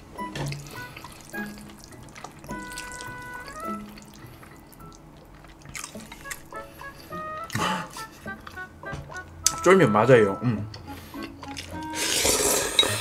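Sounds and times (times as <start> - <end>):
soft plinking background music: 0.0 - 13.0
man slurping and chewing noodles: 0.4 - 8.7, 10.8 - 13.0.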